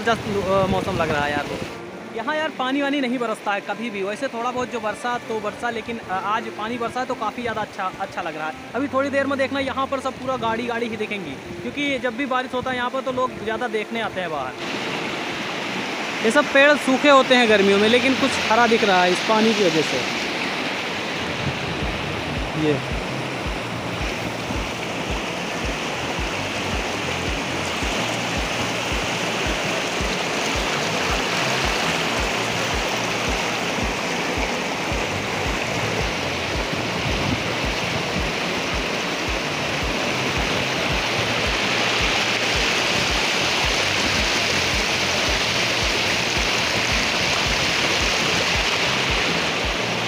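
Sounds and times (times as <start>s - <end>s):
water rushing over rocks: 0.0s - 50.0s.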